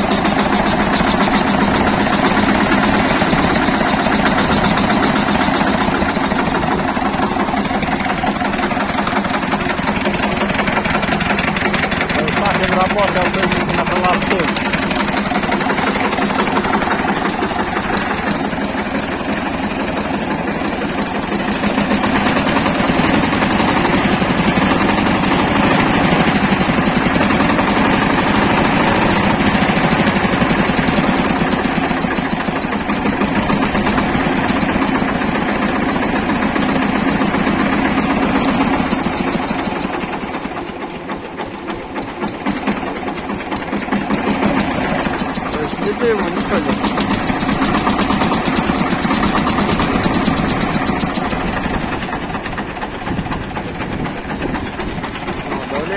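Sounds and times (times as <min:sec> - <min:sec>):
diesel tractor engine knocking: 0:00.0 - 0:55.9.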